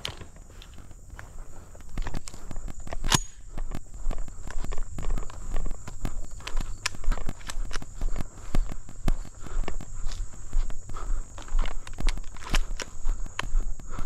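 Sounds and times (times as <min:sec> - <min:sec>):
footsteps on grass and dirt: 0:00.0 - 0:14.0.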